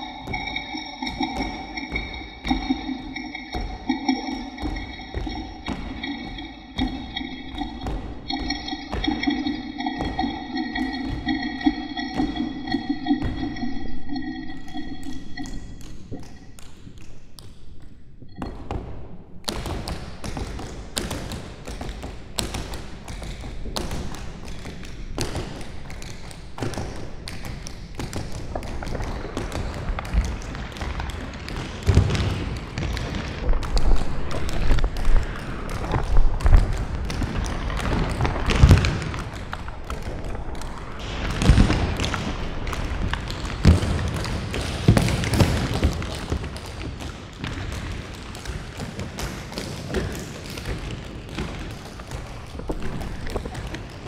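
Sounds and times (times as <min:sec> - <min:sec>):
crackling taps and clicks: 0:00.0 - 0:54.0.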